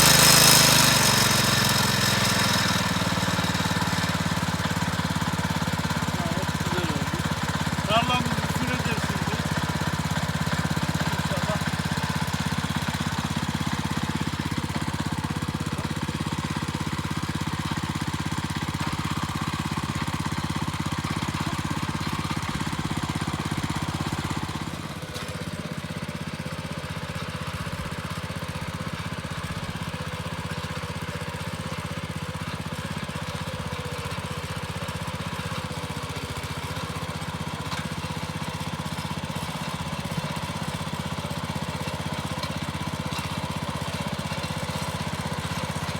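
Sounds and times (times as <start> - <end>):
tiller small engine running: 0.0 - 45.9.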